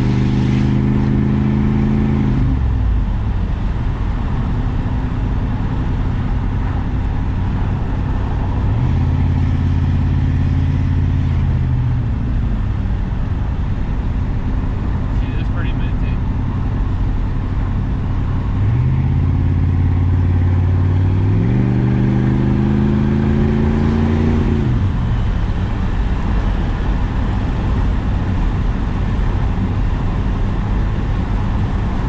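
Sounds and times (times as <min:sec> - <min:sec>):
car engine accelerating: 0:00.0 - 0:32.0
road noise: 0:00.0 - 0:32.0.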